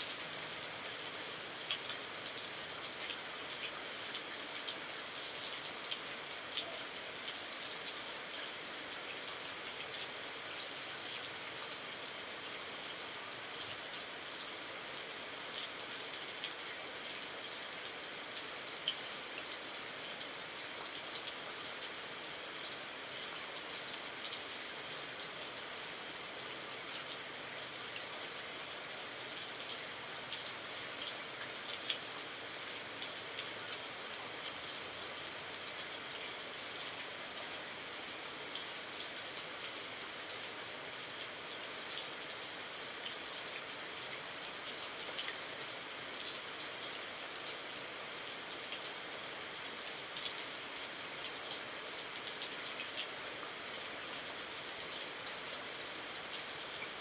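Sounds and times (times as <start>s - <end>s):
raindrops ticking on surfaces: 0.0s - 57.0s
steady rain falling: 0.0s - 57.0s.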